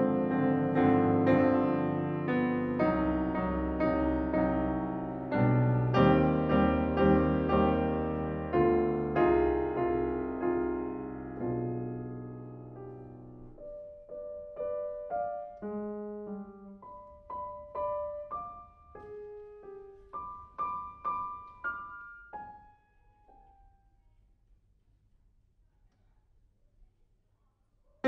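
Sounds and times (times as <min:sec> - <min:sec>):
grand piano playing: 0:00.0 - 0:23.3.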